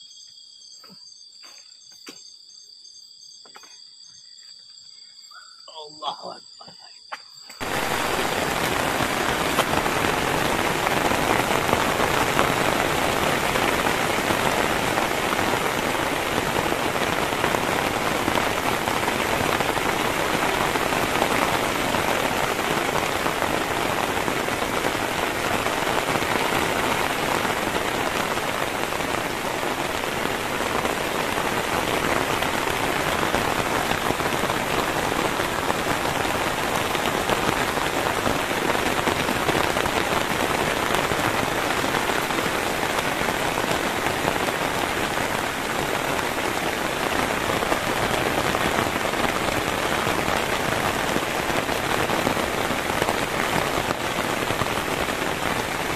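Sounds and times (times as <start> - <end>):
heavy rain falling: 7.6 - 55.9.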